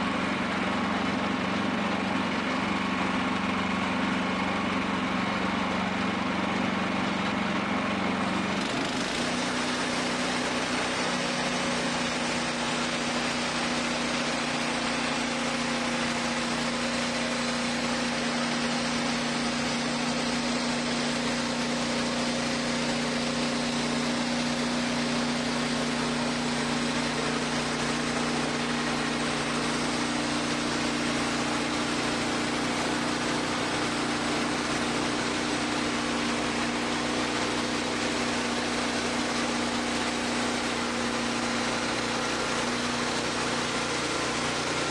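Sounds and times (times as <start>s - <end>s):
band sawmill engine running: 0.0s - 44.9s.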